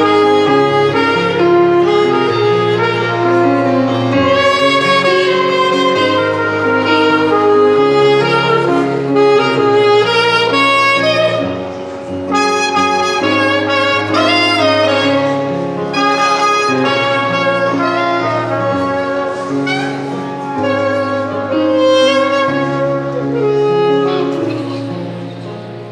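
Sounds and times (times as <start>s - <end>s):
instrumental melody over bass: 0.0s - 25.9s.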